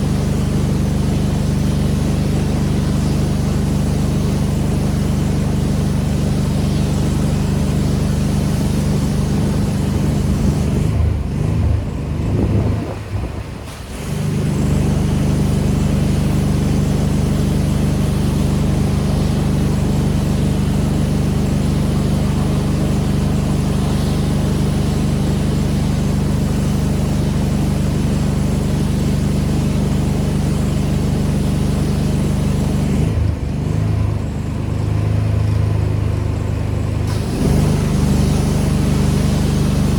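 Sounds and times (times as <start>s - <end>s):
hissing water spray: 0.0s - 35.8s, 37.0s - 39.9s
pressure washer engine running: 0.0s - 39.9s.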